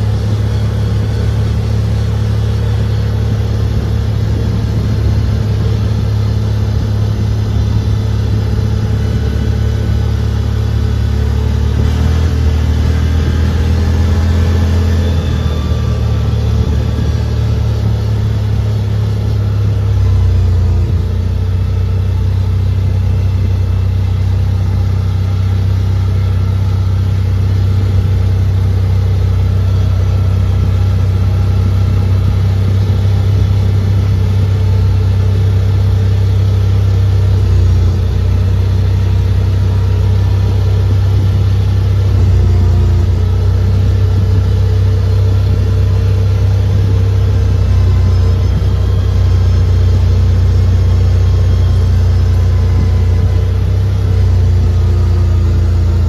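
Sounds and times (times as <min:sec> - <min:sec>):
engine drone inside vehicle: 0:00.0 - 0:56.0.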